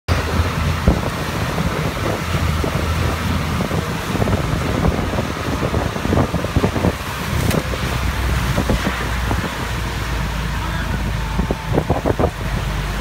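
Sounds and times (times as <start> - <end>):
rain: 0.1 - 13.0
rushing wind: 0.1 - 13.0.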